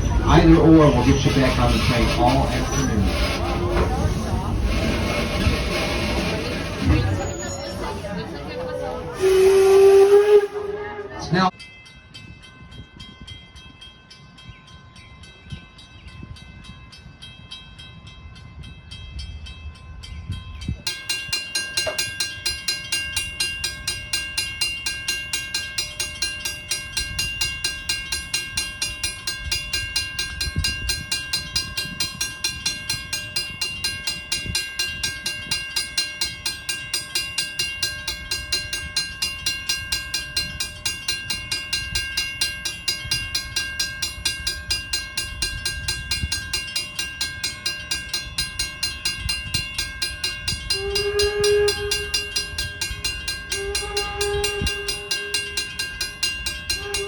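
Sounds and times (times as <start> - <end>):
steam locomotive chugging: 0.0 - 11.6, 20.6 - 57.0.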